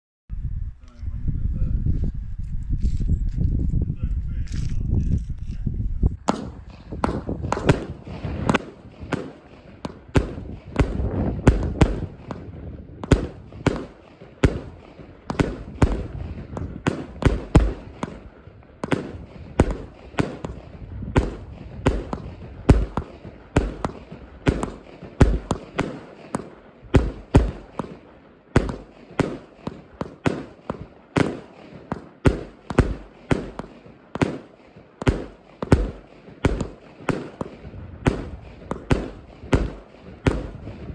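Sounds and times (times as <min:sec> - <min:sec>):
fireworks bangs: 0:06.2 - 0:40.9.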